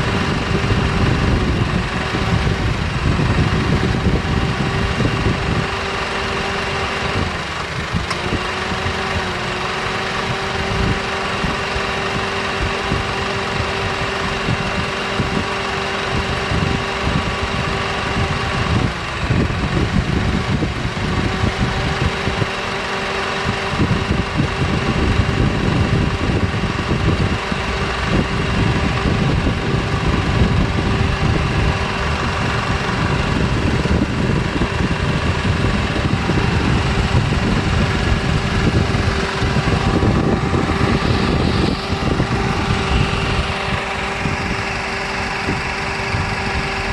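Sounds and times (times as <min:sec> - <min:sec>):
car engine idling: 0:00.0 - 0:46.9
compressor clutch cutting in: 0:00.0 - 0:46.9.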